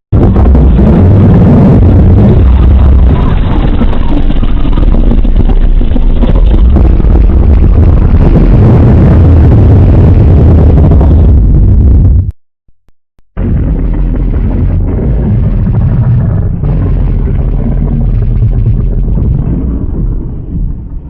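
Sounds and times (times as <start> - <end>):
low steady rumble: 0.2 - 12.4, 13.4 - 21.0.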